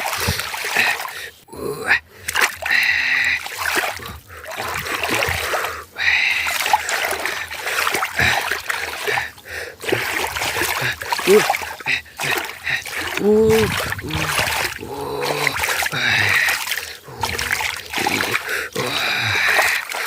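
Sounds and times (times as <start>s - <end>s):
water splashing and trickling: 0.0s - 20.0s.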